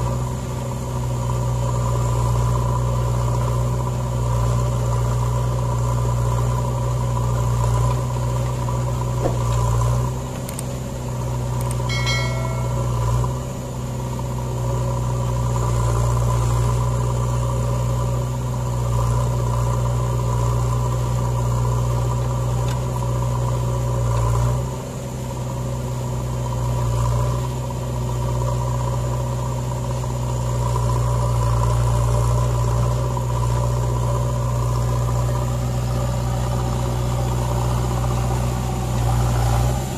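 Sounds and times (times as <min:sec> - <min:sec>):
diesel engines humming: 0:00.0 - 0:39.9.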